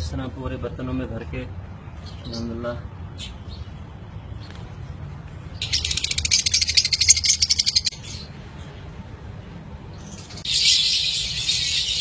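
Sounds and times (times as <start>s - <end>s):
birds chirping rapidly: 0.6s - 12.0s.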